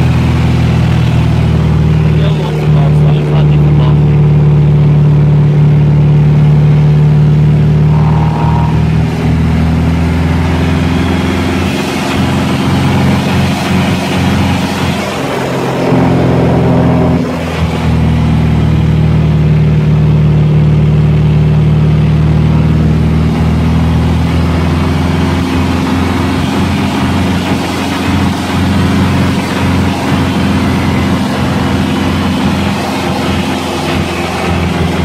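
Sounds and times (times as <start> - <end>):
light aircraft engine drone: 0.0 - 35.0.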